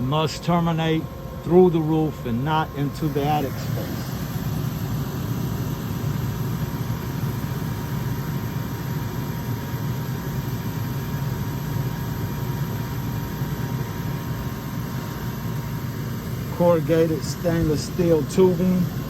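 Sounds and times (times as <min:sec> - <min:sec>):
gas furnace rumble: 0:00.0 - 0:19.0.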